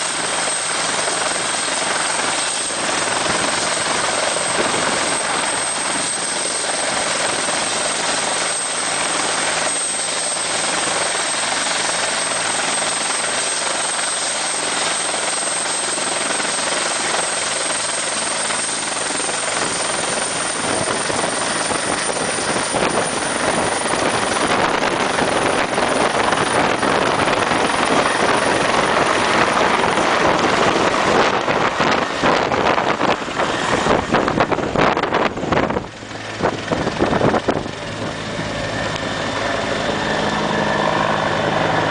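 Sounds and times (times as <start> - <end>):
helicopter engine and rotor: 0.0 - 41.9
high turbine whine: 0.0 - 41.9.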